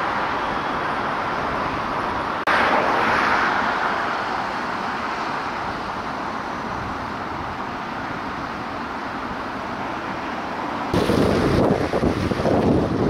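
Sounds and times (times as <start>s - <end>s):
passing vehicle: 0.0s - 13.0s
traffic hum: 0.0s - 13.0s.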